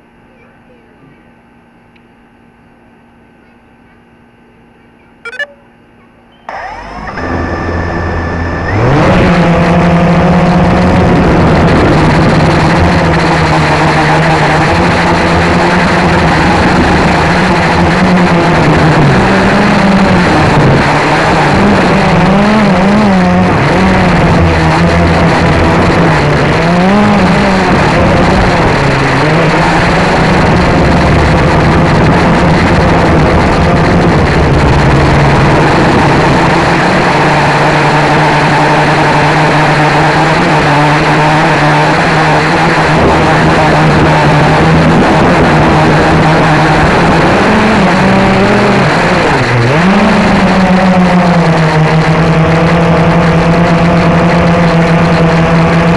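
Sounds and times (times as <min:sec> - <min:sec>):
quadcopter motors humming: 0:00.0 - 0:55.9.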